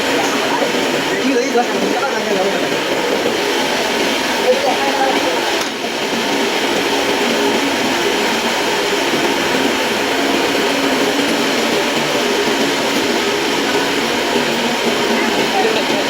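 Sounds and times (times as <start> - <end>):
motor running: 0.0 - 16.0.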